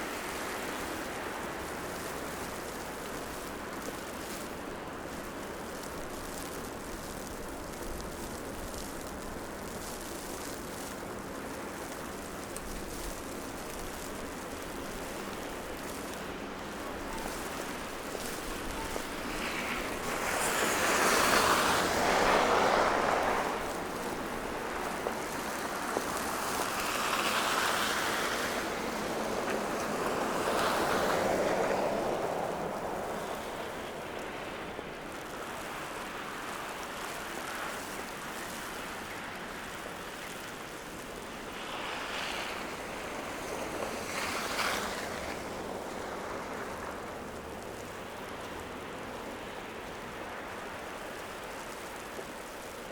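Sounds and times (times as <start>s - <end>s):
city background hiss: 0.0s - 52.9s
tyre hiss on wet street: 0.0s - 52.9s.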